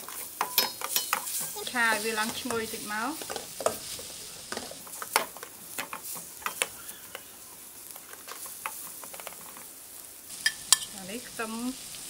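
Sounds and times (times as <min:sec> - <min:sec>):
metal spatula scraping a pan: 0:00.0 - 0:09.7
garlic sizzling in butter: 0:00.0 - 0:12.0.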